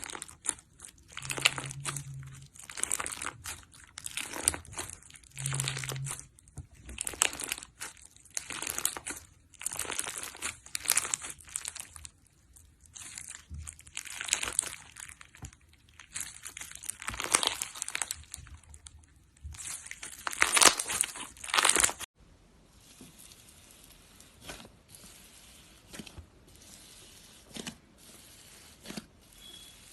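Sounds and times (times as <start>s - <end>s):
slime squelching: 0.0s - 29.9s.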